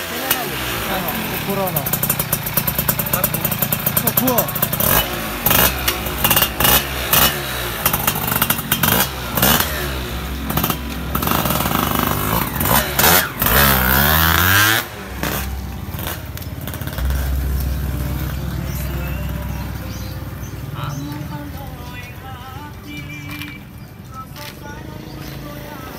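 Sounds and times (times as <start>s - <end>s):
motorcycle engine revving: 0.0s - 22.6s.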